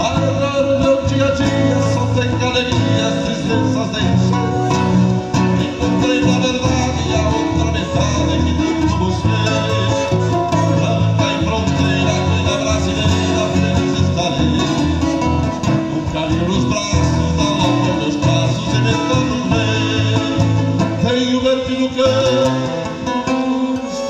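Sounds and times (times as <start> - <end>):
acoustic guitars strumming: 0.0 - 24.0.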